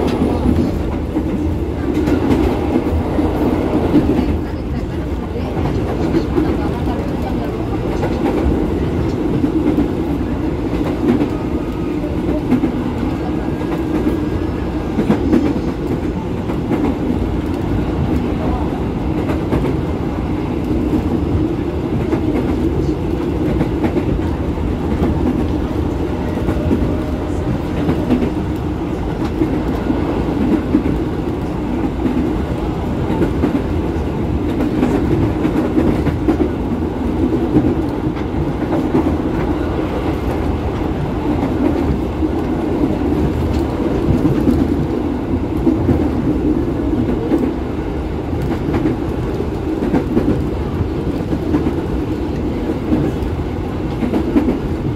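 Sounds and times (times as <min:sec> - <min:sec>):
train running inside car: 0:00.0 - 0:54.9.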